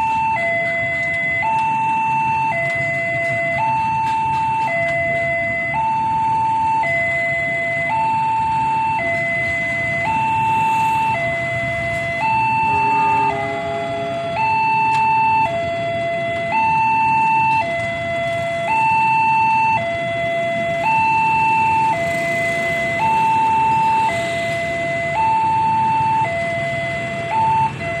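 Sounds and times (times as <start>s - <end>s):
level crossing two-tone alarm: 0.0s - 28.0s.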